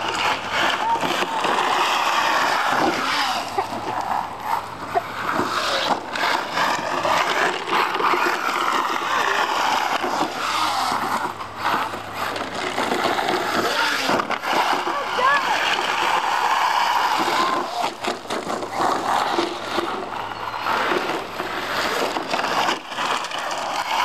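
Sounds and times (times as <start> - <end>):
electric motor whining: 0.0 - 24.0
tyres scrabbling on gravel: 0.0 - 24.0.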